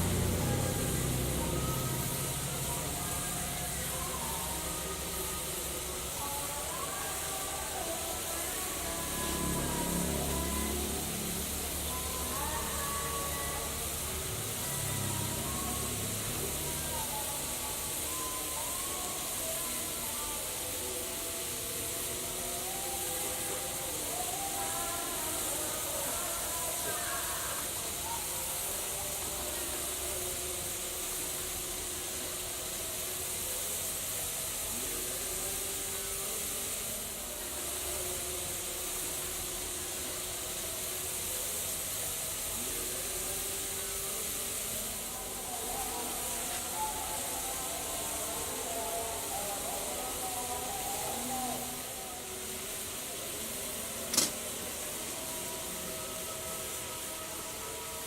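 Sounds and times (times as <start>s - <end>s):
hot metal ball sizzling in liquid: 0.0s - 58.0s.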